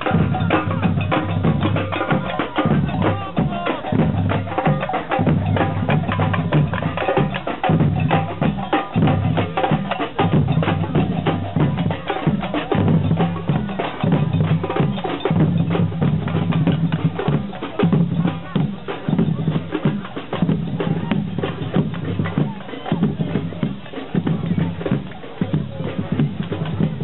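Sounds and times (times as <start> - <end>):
rapid drum and percussion strikes: 0.0 - 27.0.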